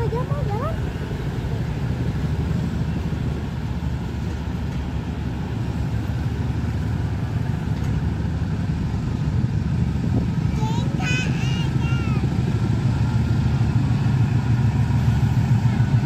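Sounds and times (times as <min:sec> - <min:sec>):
diesel locomotive rumbling: 0:00.0 - 0:16.0.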